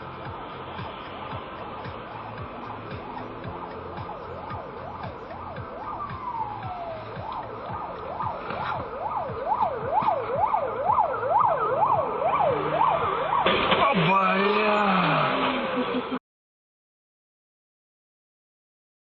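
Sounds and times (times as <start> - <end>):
emergency vehicle siren yelping: 0.0 - 16.2.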